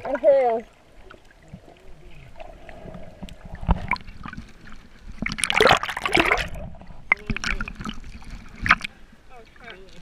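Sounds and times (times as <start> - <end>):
water splashing and gurgling: 0.0 - 10.0.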